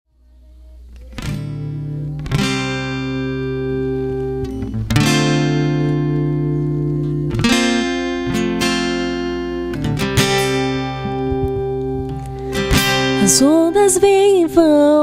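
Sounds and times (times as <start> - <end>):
acoustic guitar chords strummed: 0.6 - 15.0.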